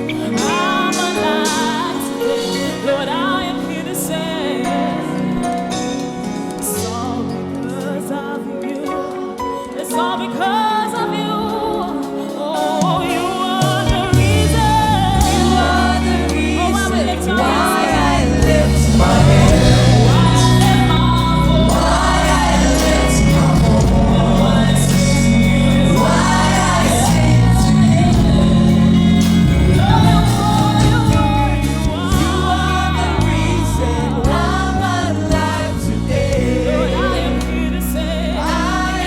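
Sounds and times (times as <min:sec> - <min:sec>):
band playing gospel music: 0:00.0 - 0:39.0
choir and congregation singing: 0:00.0 - 0:39.0.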